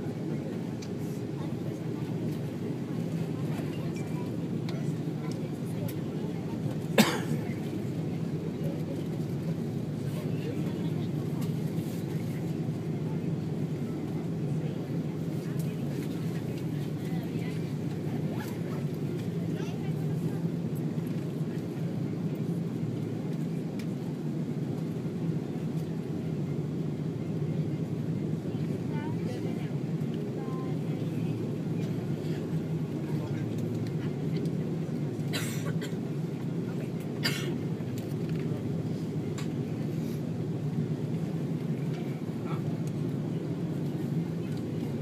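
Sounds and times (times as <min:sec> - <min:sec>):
airliner cabin rumble: 0:00.0 - 0:45.0
faint cabin air hum: 0:00.0 - 0:45.0.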